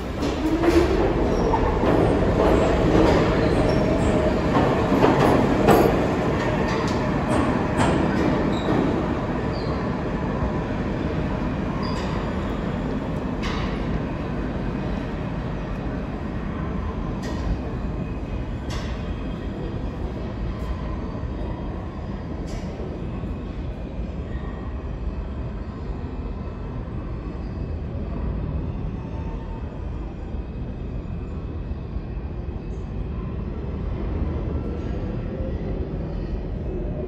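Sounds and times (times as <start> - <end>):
subway train wheels rumbling: 0.0 - 37.0.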